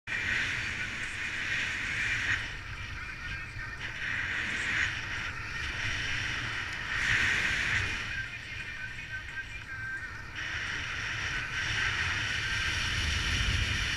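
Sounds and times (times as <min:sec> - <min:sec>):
wind rushing over microphone: 0:00.1 - 0:13.9
low buffeting rumble: 0:00.2 - 0:13.9.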